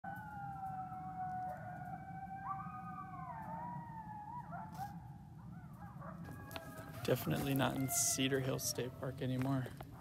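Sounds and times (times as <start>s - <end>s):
animal howling: 0.0s - 10.0s.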